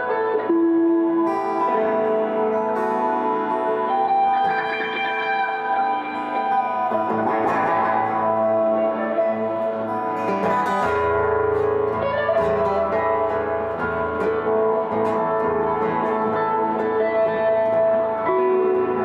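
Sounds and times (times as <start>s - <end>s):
acoustic guitar playing: 0.0s - 19.0s
electric guitar playing: 0.0s - 19.0s.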